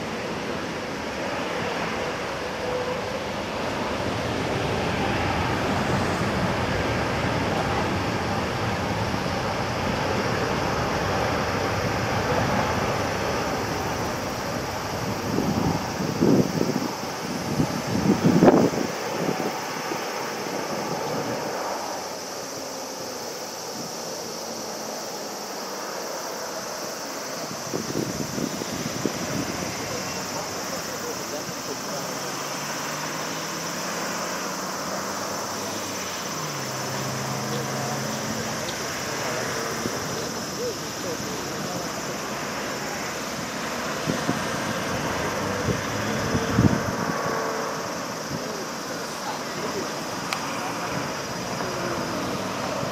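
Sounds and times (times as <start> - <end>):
high hiss: 0.0 - 52.9
jet engines rushing: 0.0 - 52.9.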